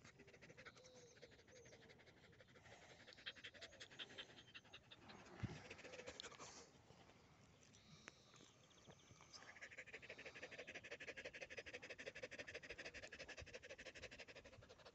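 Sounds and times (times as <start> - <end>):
dog panting fast: 0.0 - 6.7, 9.6 - 14.9.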